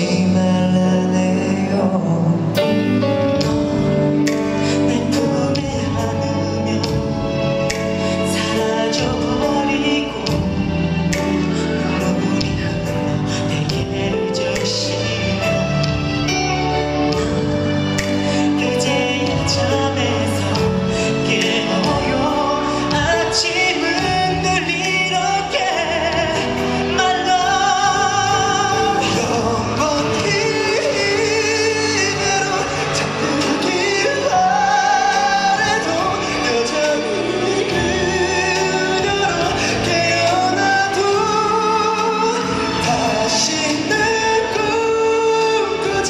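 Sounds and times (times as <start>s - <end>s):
backing music: 0.0s - 46.0s
man singing with vibrato: 0.0s - 46.0s.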